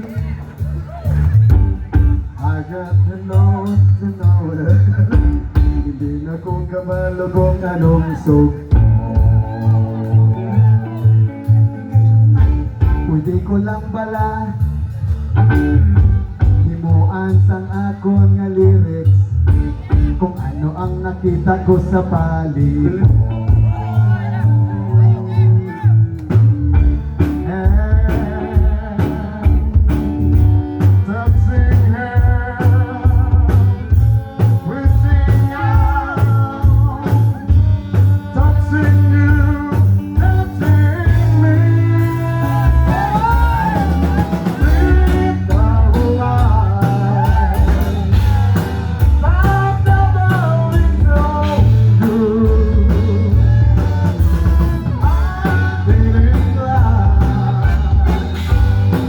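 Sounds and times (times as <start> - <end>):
person singing: 0.0 - 26.5, 27.1 - 59.0
drum kit: 0.0 - 59.0
electric guitar: 0.0 - 59.0
heavy pulsing bass: 0.0 - 59.0.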